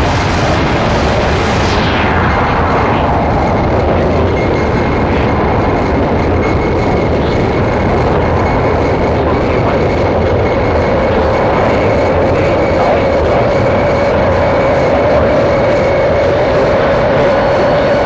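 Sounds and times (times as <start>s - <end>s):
rumbling noise music: 0.0s - 18.0s.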